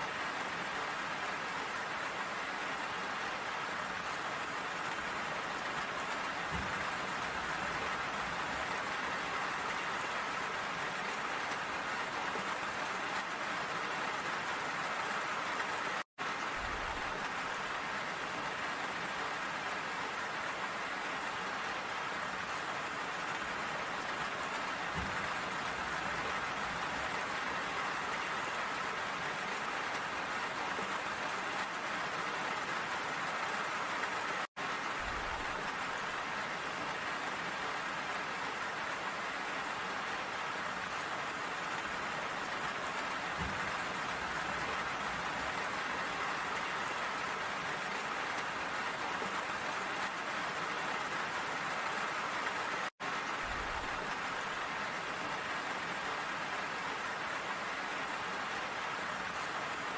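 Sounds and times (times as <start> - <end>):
rain pattering on surfaces: 0.0 - 59.9.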